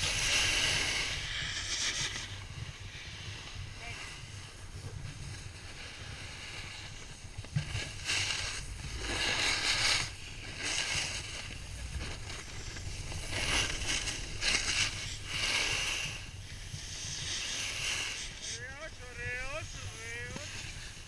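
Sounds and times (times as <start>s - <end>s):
snowboard scraping over snow: 0.0s - 21.0s
wind rumble on microphone: 0.0s - 21.0s.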